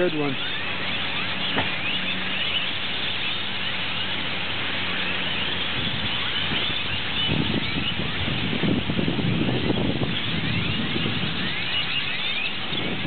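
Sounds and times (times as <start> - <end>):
flock of birds chirping: 0.0 - 13.0
wind rumbling on microphone: 0.0 - 13.0.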